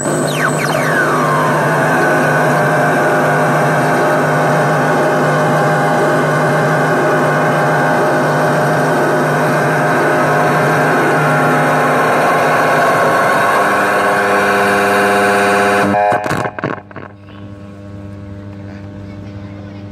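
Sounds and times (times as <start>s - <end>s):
electronic noise drone: 0.0s - 19.9s.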